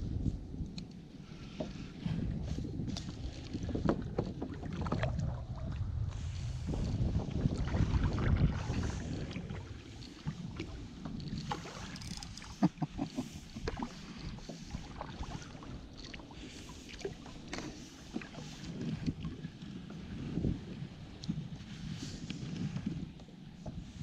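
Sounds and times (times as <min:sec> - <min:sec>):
wind buffeting microphone: 0:00.0 - 0:24.0
water slapping kayak hull: 0:01.2 - 0:24.0.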